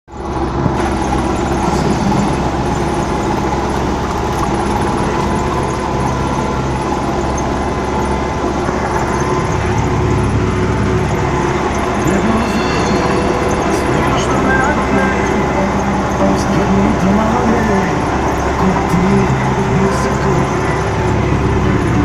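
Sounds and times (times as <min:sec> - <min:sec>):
tractor diesel engine running: 0:00.1 - 0:22.0.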